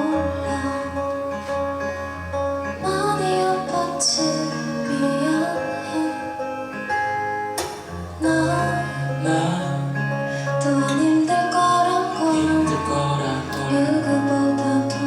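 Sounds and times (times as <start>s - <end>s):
live band playing with guitar: 0.0s - 15.0s.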